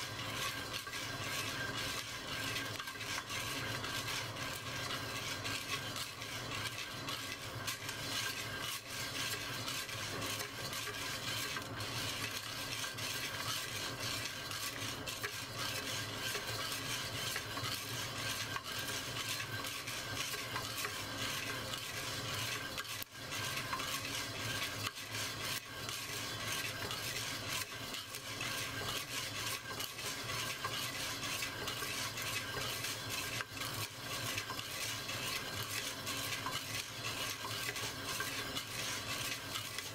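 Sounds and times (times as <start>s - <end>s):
coffee beans rattling in clay pot: 0.0s - 39.9s.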